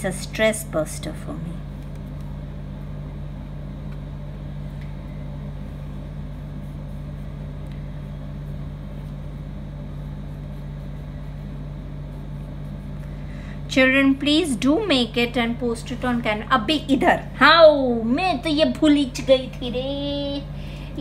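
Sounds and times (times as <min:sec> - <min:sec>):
steady low motor hum: 0:00.0 - 0:21.0.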